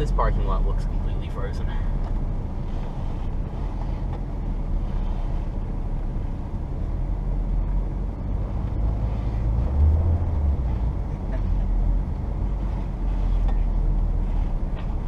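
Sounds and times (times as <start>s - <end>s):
car engine drone from inside: 0.0s - 15.0s
road noise: 0.0s - 15.0s.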